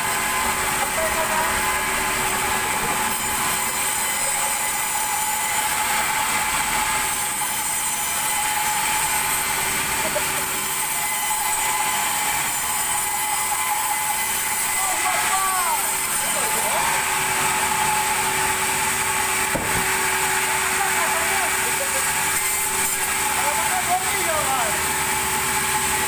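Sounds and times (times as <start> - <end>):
band saw running: 0.0 - 26.0.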